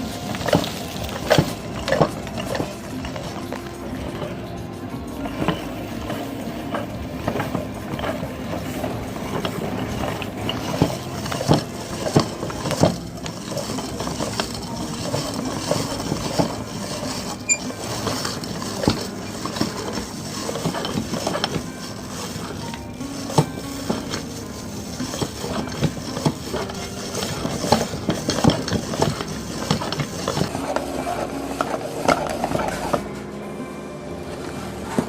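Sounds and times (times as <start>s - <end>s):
meat grinder humming: 0.0s - 35.0s.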